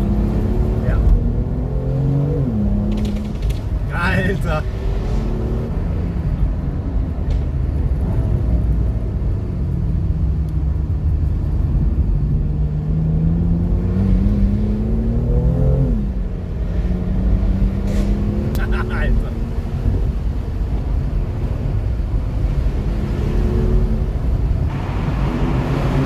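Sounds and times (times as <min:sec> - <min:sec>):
car engine running under load: 0:00.0 - 0:26.0.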